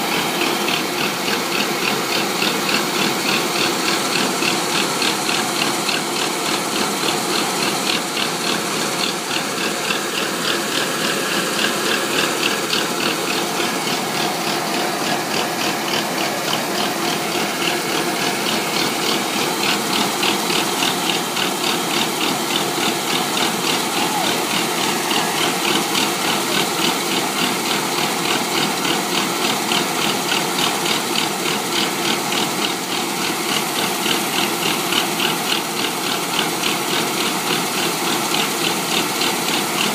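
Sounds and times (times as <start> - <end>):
combine harvester rhythmic clatter: 0.0 - 39.9.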